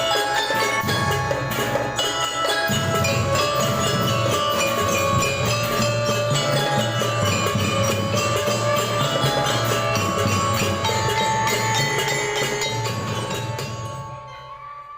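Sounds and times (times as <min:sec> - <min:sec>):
marching drums: 0:00.0 - 0:14.2
bell-like mallet notes: 0:00.0 - 0:14.9.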